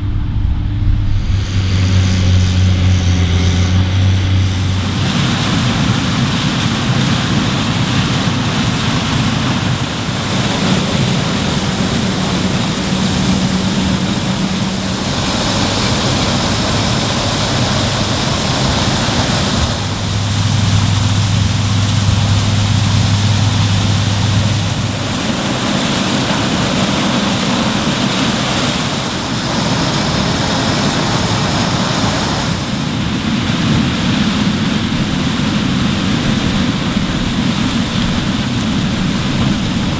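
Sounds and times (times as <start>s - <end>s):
diesel engines running hard: 0.0s - 39.9s
rushing noise of machinery: 0.0s - 39.9s.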